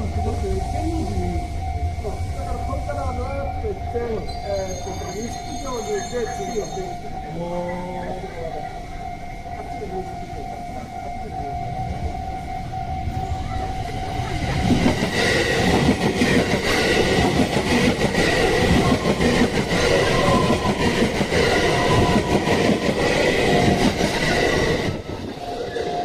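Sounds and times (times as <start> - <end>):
crossing warning bell ringing: 0.0 - 26.0
electric train passing: 0.0 - 26.0.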